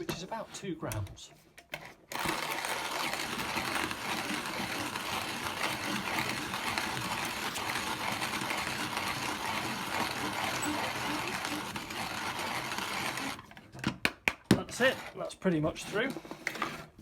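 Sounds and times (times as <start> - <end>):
hand coffee grinder grinding beans: 0.0 - 13.9, 14.6 - 17.0.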